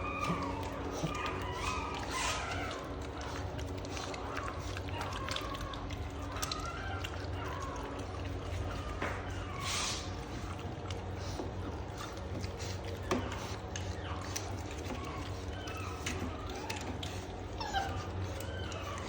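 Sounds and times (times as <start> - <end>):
puppies chewing bones: 0.0 - 19.0
puppies whining: 0.0 - 19.0.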